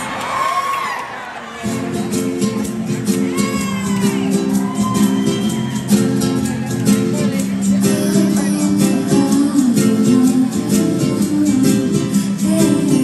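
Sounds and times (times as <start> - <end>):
guitars strumming: 1.6 - 13.0
live band playing: 1.7 - 13.0.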